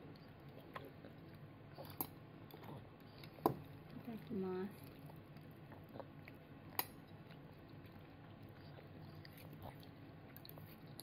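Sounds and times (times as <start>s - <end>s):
toddler chewing: 0.0s - 11.0s.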